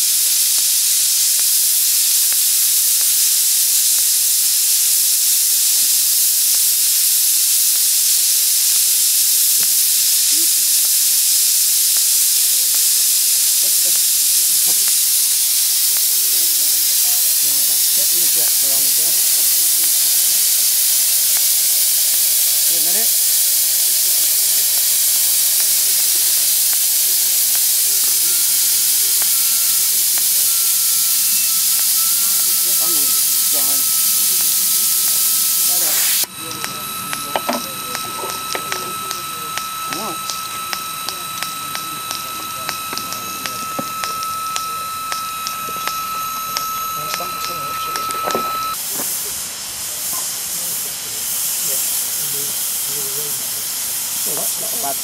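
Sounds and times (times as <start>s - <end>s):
steam hissing: 0.0s - 55.0s.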